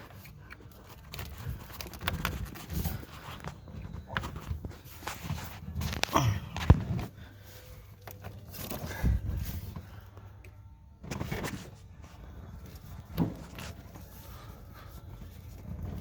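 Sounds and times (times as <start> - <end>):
hands rustling on wiring: 0.0 - 16.0.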